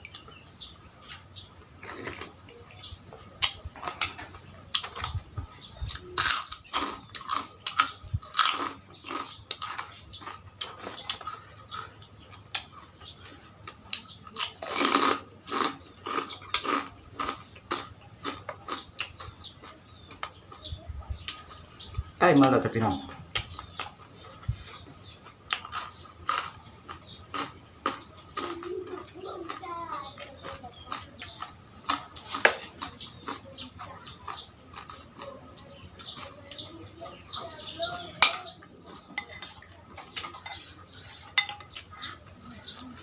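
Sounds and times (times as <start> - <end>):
person chewing with crunches: 0.0 - 22.2, 23.2 - 37.6.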